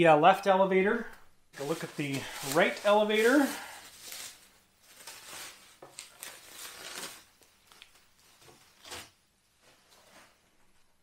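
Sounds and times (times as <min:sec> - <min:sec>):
plastic wrapping crinkling: 0:01.6 - 0:10.4.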